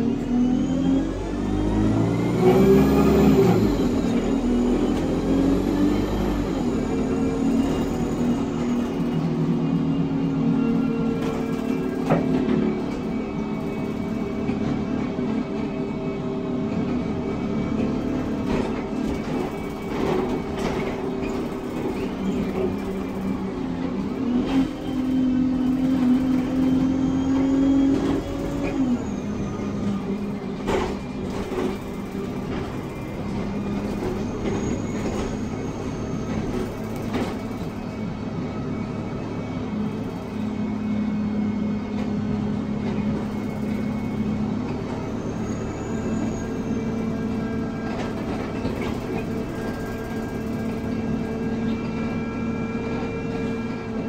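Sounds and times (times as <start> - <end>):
bus engine: 0.0 - 54.0.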